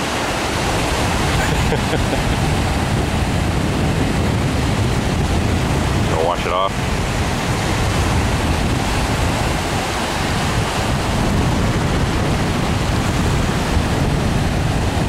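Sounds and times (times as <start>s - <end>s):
ocean surf washing: 0.0s - 15.0s
wind rumbling on microphone: 0.0s - 15.0s.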